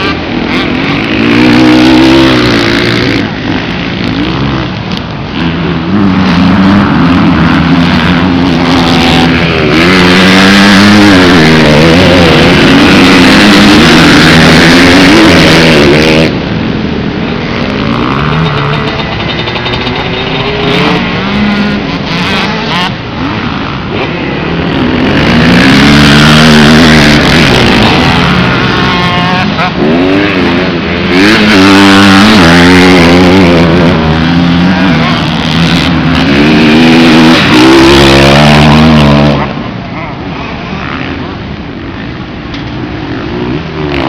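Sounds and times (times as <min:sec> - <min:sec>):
dirt bikes revving: 0:00.0 - 0:44.0.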